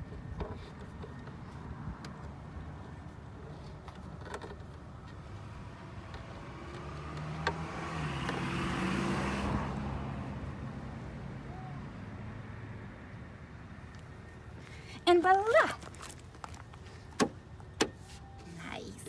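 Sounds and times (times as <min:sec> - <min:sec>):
motor vehicle running: 0:00.0 - 0:17.7.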